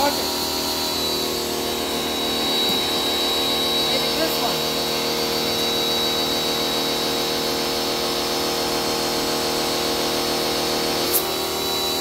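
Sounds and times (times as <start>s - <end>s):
pressure washer running: 0.0s - 12.0s.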